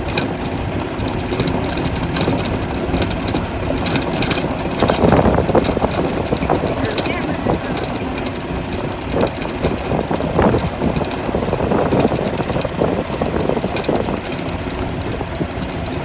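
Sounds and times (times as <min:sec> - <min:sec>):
golf cart rumbling over dirt: 0:00.0 - 0:16.0
knocks and rattles: 0:00.0 - 0:16.0
wind on microphone: 0:00.0 - 0:16.0.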